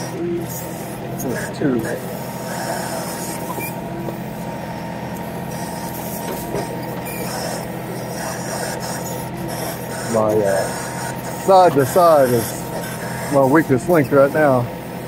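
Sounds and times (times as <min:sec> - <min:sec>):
backhoe hydraulics: 0:00.0 - 0:15.0
tractor diesel engine running: 0:00.0 - 0:15.0.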